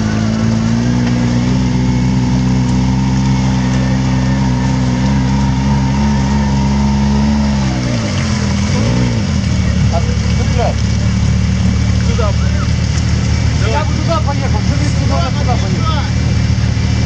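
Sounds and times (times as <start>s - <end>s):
vehicle engine at steady revs: 0.0s - 17.0s.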